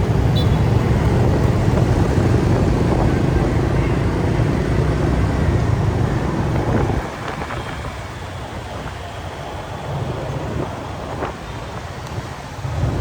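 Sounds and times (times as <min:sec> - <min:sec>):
road traffic noise: 0:00.0 - 0:13.0
wind buffeting microphone: 0:00.0 - 0:13.0.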